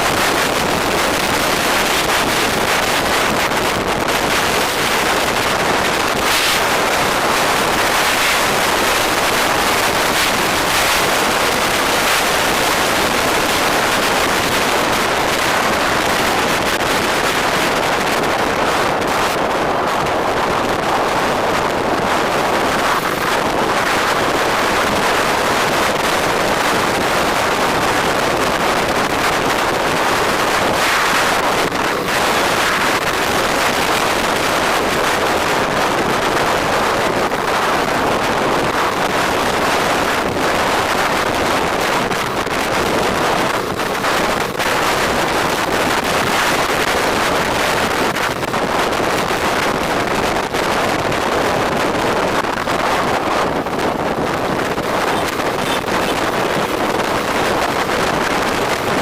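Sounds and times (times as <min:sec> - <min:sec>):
loud wind rush on microphone: 0:00.0 - 0:59.0.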